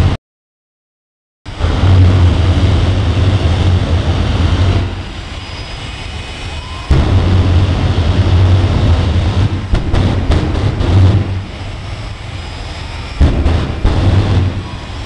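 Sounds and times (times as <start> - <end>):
jet engine roaring: 1.5 - 15.0.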